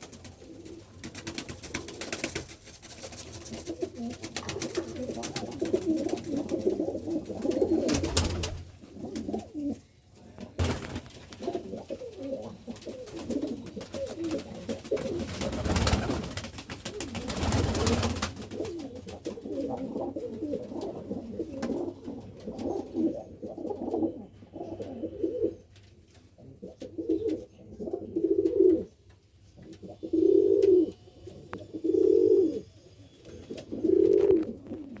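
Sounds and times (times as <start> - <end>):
pigeons cooing: 3.4 - 25.7, 26.4 - 29.0, 29.6 - 35.0.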